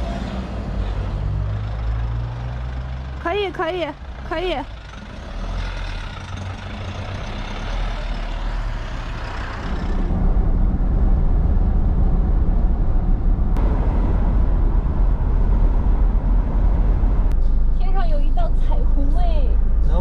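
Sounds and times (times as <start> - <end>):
motorhome engine: 0.0 - 20.0
road noise: 0.0 - 20.0.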